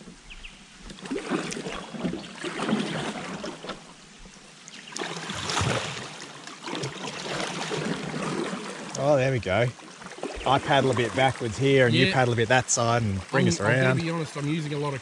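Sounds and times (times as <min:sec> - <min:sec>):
water gurgling around hull: 0:00.0 - 0:15.0
paddles splashing in water: 0:00.9 - 0:04.0, 0:04.7 - 0:14.9.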